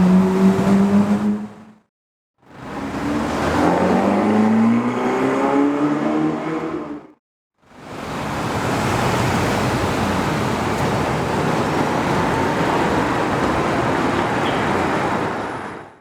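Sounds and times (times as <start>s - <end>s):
car and road noise: 0.0s - 16.0s.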